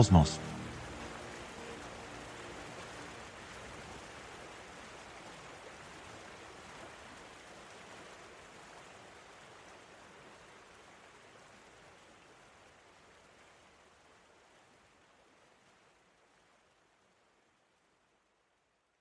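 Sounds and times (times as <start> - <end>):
steady hiss of noise: 0.0 - 19.0.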